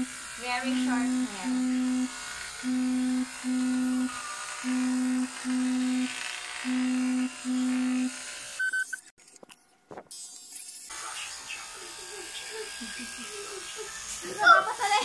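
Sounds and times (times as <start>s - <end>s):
electric hair clippers buzzing: 0.0s - 8.7s, 10.2s - 15.0s.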